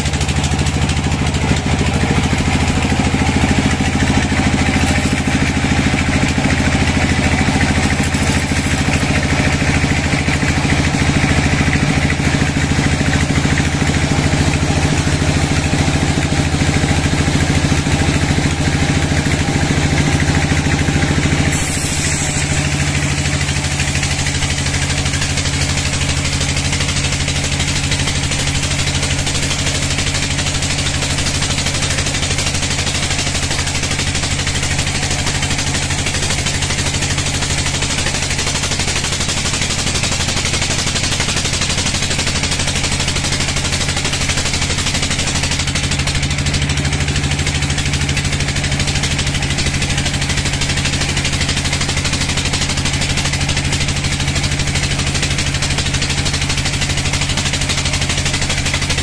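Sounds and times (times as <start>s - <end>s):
band saw blade rasping wood: 0.0s - 13.4s, 18.4s - 59.0s
saw drive hum: 0.0s - 59.0s.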